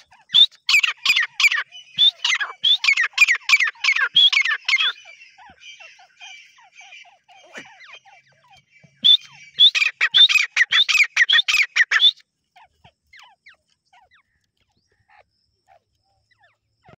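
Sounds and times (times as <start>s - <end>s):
faint bird chirps: 0.0s - 17.0s
francolin calling: 0.0s - 17.0s.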